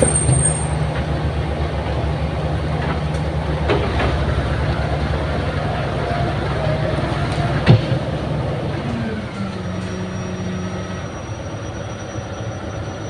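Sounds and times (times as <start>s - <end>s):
heavy diesel engine droning: 0.0s - 13.0s.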